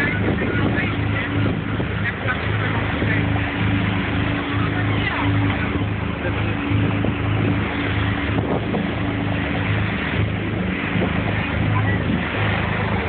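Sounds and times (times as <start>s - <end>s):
boat engine running: 0.0s - 13.0s
water rushing along hull: 0.0s - 13.0s
wind buffeting microphone: 0.0s - 13.0s.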